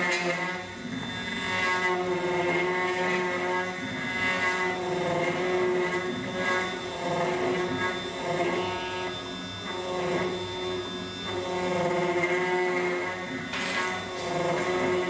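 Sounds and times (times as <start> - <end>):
key cutting machine whine: 0.8 - 15.0.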